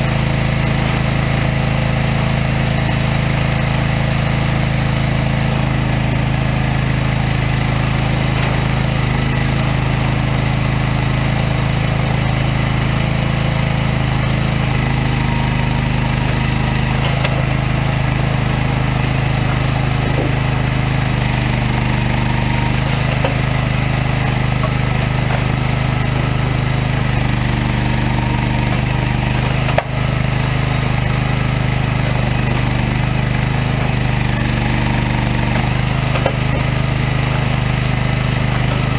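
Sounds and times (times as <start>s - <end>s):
machine engine running: 0.0s - 38.9s.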